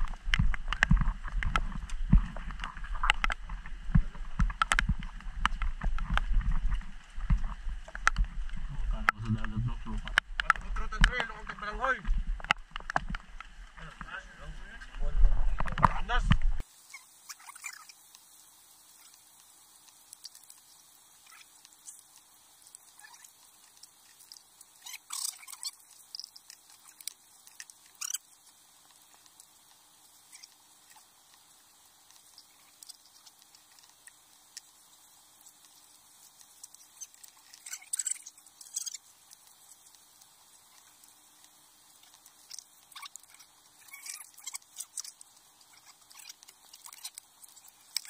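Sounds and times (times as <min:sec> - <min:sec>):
clicks and scrapes of eating: 0:00.0 - 0:11.3, 0:19.0 - 0:48.0.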